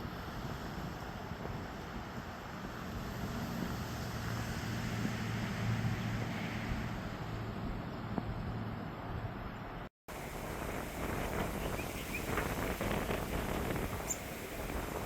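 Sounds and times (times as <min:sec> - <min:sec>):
distant motor traffic: 0:00.0 - 0:15.0.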